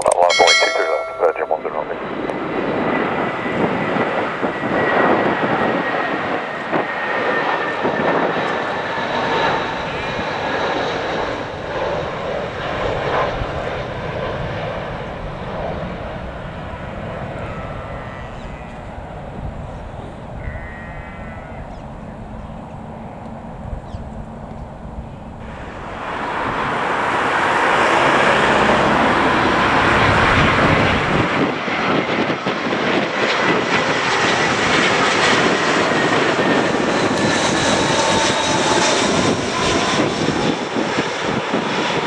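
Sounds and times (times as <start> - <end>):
jet airliner passing: 0.3 - 42.0.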